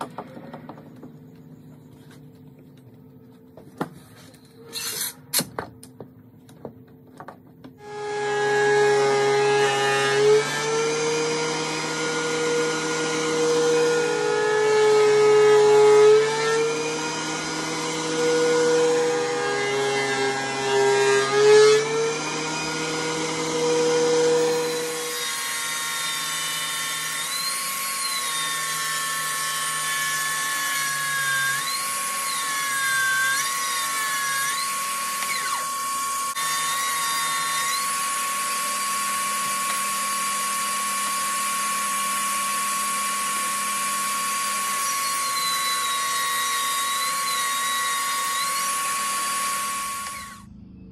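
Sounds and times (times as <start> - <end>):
table saw whining: 4.3 - 5.4, 7.8 - 50.5
thickness planer running: 7.8 - 50.6.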